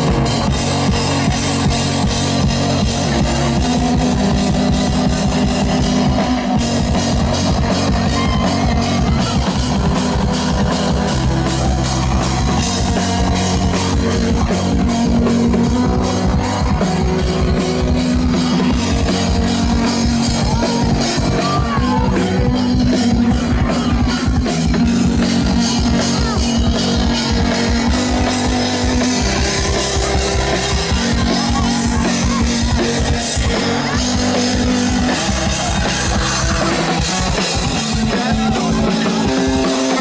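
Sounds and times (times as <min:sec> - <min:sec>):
acoustic drum kit: 0:00.0 - 0:40.0
live band instrumental: 0:00.0 - 0:40.0
low synth notes: 0:00.0 - 0:40.0.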